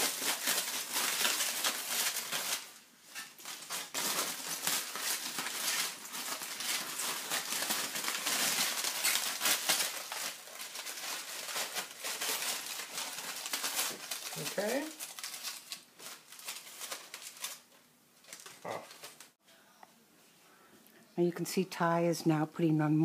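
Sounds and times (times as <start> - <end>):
aluminium foil crumpling: 0.0 - 19.4.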